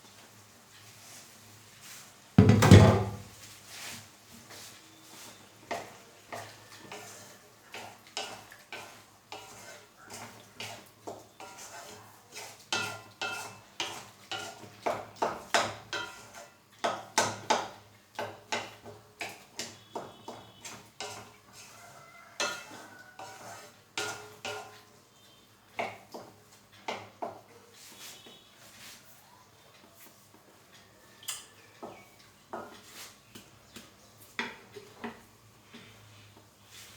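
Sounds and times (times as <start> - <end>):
utensil scraping a cooking pan: 0.7 - 29.2, 31.9 - 36.9.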